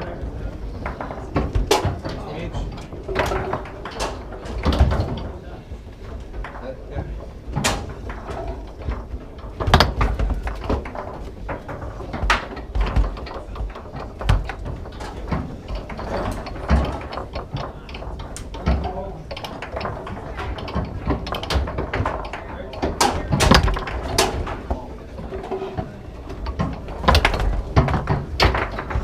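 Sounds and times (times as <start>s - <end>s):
foosball ball knocking: 0.0s - 29.0s
steel rods clacking: 0.0s - 29.0s.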